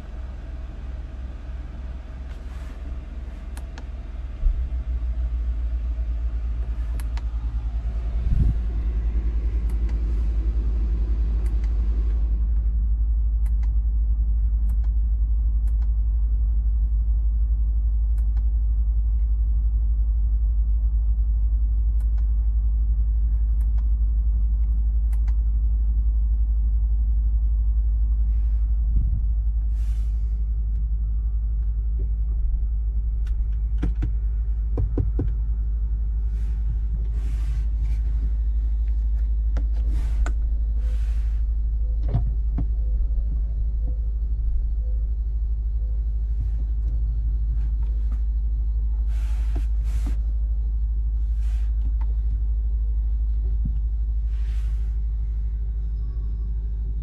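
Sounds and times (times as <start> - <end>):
low rumble in car cabin: 0.0 - 57.0.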